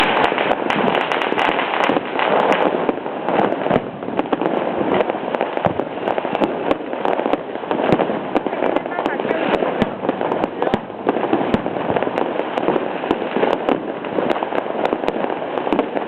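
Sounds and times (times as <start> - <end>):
firecrackers crackling: 0.0 - 16.0
loud firework bangs: 0.0 - 16.0.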